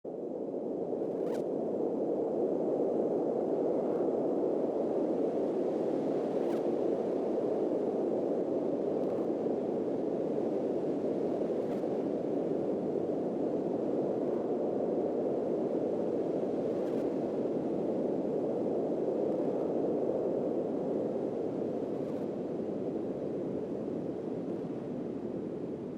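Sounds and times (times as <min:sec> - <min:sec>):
steady rushing noise: 0:00.1 - 0:25.9.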